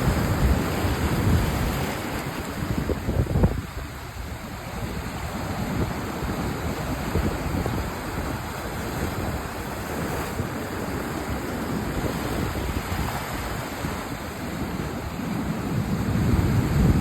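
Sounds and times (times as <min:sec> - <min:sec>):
sea waves surf: 0:00.0 - 0:17.0
wind rumbling on microphone: 0:00.0 - 0:17.0.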